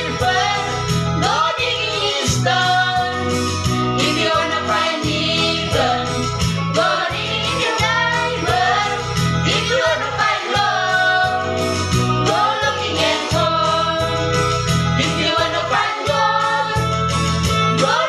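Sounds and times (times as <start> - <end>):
instrumental accompaniment with bass: 0.0 - 18.0
voices singing together: 0.0 - 18.0.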